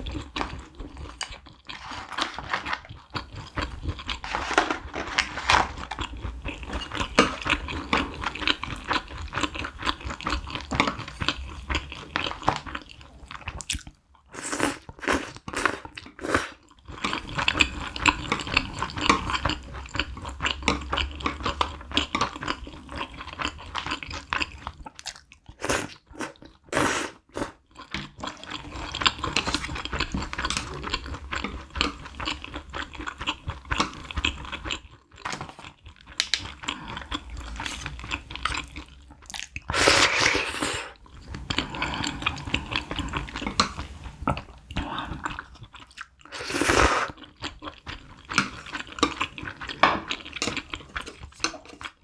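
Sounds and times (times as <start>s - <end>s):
wet chewing of noodles: 0.0s - 52.0s.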